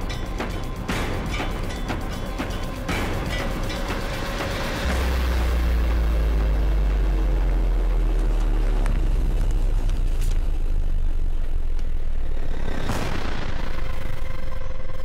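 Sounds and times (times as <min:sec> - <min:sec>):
low drone of stacked tones: 0:00.0 - 0:15.0.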